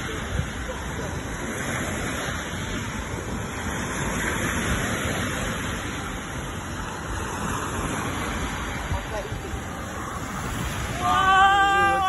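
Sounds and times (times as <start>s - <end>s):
small waves washing onto shore: 0.0s - 12.0s
wind buffeting microphone: 0.0s - 12.0s.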